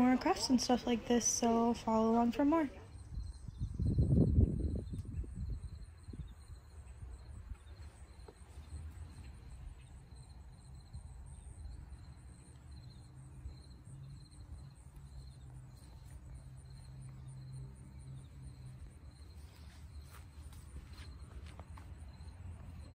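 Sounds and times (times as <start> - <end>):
crickets chirping: 0.0 - 22.9.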